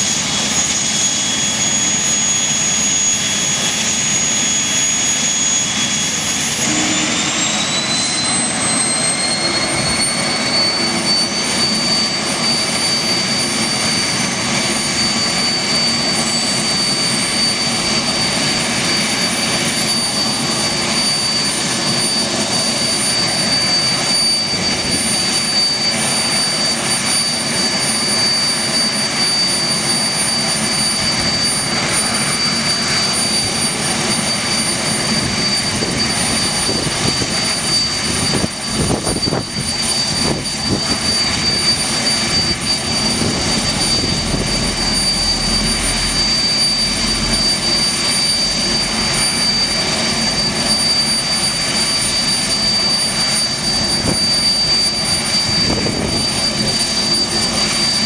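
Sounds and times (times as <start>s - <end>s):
jet engines roaring: 0.0s - 58.0s
high whistle: 0.1s - 58.0s.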